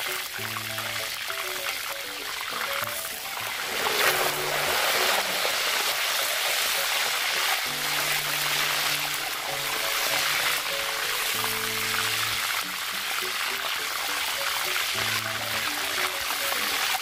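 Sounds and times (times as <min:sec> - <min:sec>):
background music: 0:00.0 - 0:17.0
hot oil sizzling and bubbling: 0:00.0 - 0:17.0
oil trickling and splattering: 0:00.0 - 0:17.0.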